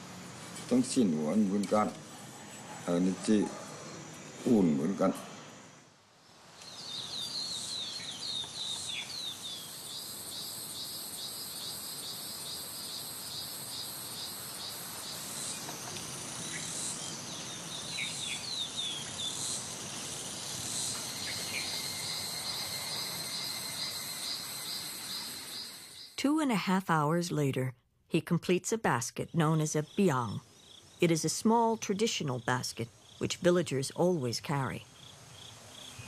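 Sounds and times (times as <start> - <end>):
insect chorus trilling: 0.0 - 26.2, 29.5 - 36.0
background hiss: 0.0 - 36.0.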